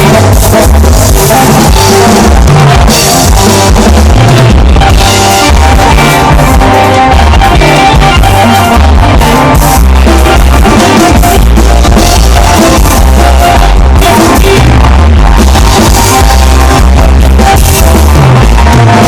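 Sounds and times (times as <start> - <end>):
bass: 0.0 - 19.0
drum kit: 0.0 - 19.0
guitar: 0.0 - 19.0.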